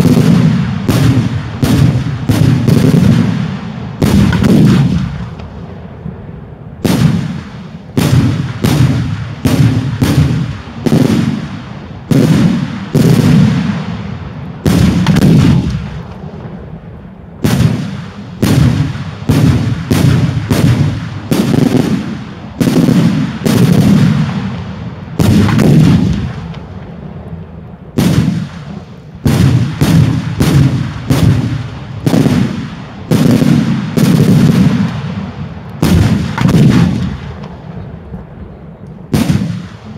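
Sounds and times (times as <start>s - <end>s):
fireworks bursting with bangs: 0.0s - 39.9s.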